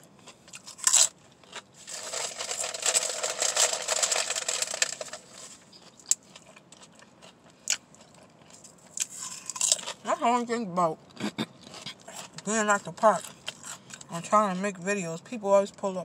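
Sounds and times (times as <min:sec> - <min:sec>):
chips being chewed and crunched: 0:00.0 - 0:10.1, 0:11.0 - 0:14.2.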